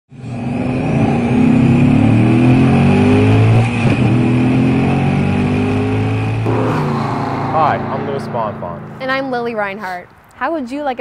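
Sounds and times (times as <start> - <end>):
car engine accelerating: 0.3 - 10.0.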